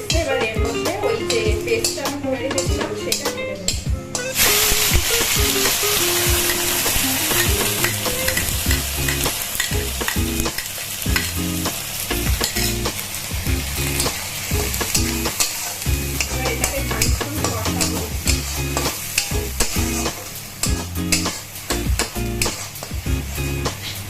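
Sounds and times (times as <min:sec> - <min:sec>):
paste sizzling in hot oil: 0:04.4 - 0:24.0.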